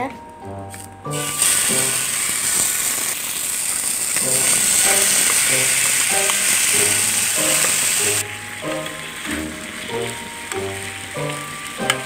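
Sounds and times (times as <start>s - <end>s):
chicken sizzling in hot oil: 1.1s - 12.0s.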